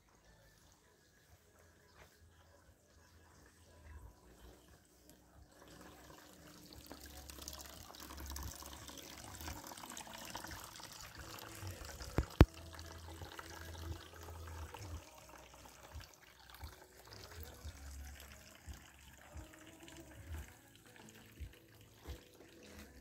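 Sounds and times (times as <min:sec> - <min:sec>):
water trickling into pond: 0:02.0 - 0:23.0.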